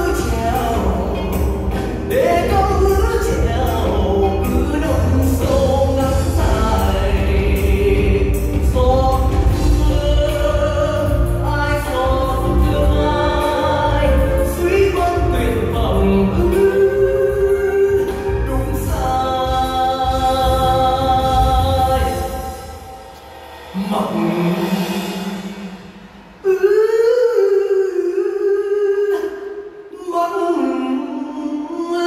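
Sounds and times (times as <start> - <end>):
live band with singer: 0.0 - 32.0.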